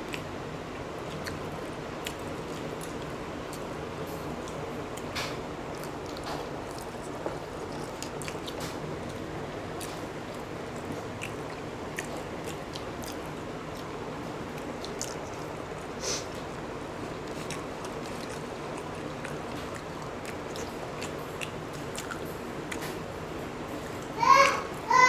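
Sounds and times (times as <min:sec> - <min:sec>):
people chewing: 0:00.0 - 0:24.7.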